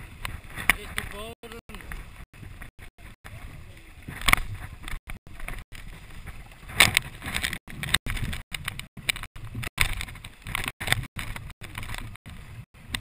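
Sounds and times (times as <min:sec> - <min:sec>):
water sloshing and rumbling: 0:00.0 - 0:13.0.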